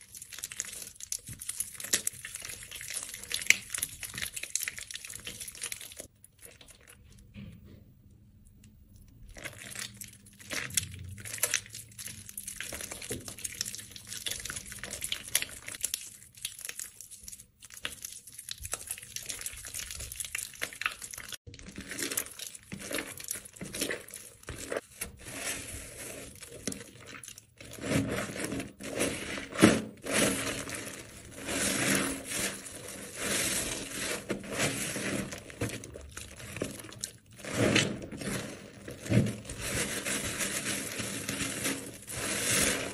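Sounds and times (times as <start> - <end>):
wet soap crackling in hands: 0.0 - 7.3, 8.5 - 42.9.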